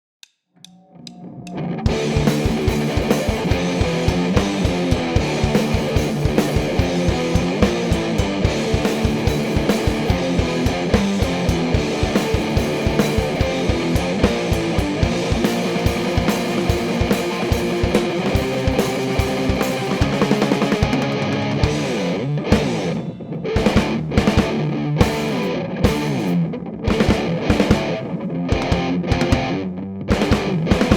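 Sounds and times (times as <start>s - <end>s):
distorted electric guitar riff: 1.3s - 30.9s
drum kit steady beat: 1.9s - 30.9s.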